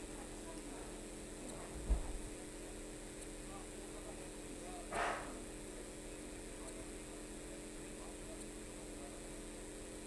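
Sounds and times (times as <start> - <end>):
faint indistinct voices: 0.0 - 9.5
electrical mains hum: 0.0 - 10.0.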